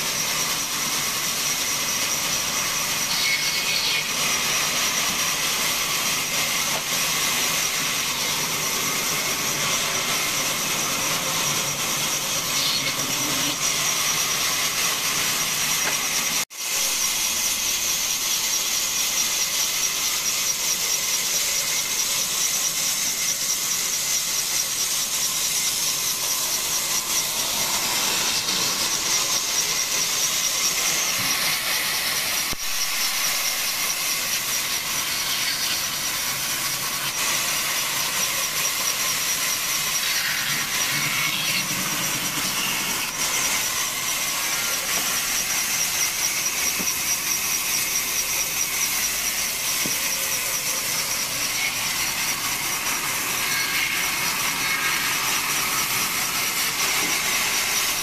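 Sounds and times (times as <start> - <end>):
band saw cutting log: 0.0 - 58.0.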